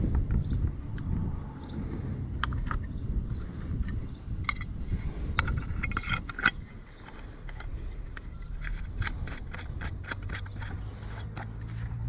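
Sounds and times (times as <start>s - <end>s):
clicks and scrapes of parts: 2.3s - 12.0s.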